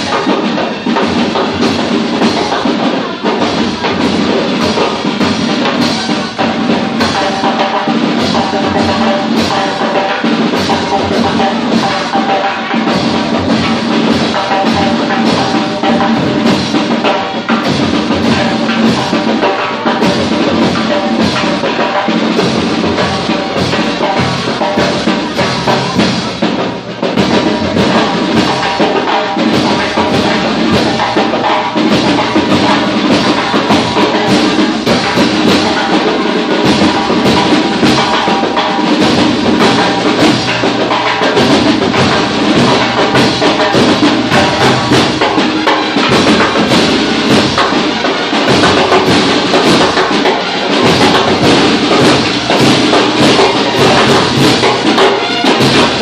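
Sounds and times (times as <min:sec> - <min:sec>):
group drumming: 0:00.0 - 0:56.0
hand-held crash cymbals: 0:00.0 - 0:56.0.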